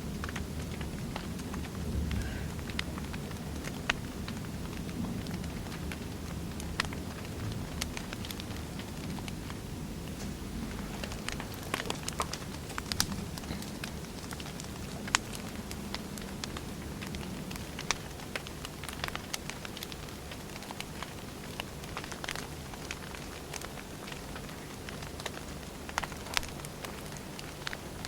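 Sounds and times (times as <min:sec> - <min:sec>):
low rumble of flames: 0:00.0 - 0:28.0.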